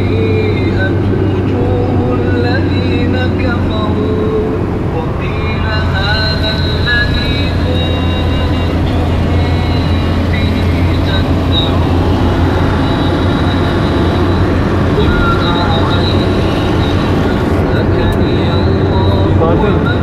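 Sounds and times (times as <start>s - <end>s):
car cabin road noise: 0.0s - 20.0s.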